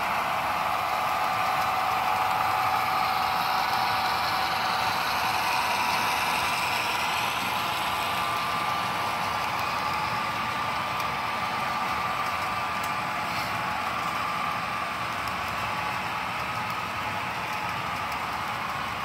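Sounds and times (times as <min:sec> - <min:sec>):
model train motors whirring: 0:00.0 - 0:19.0
wheels rolling on track: 0:00.0 - 0:19.0.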